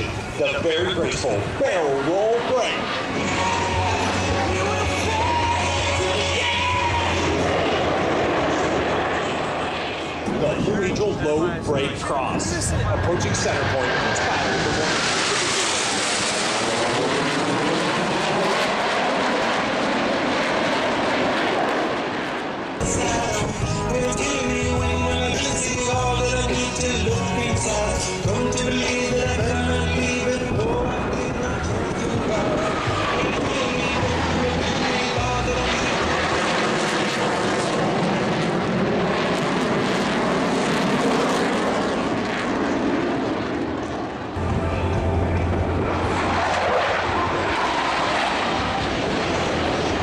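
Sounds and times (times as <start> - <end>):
jet roar: 0.0 - 50.0.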